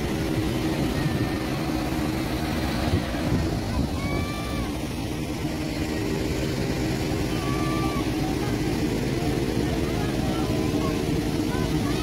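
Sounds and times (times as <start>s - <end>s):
faint voices: 0.0s - 12.0s
low rumble of motors: 0.0s - 12.0s.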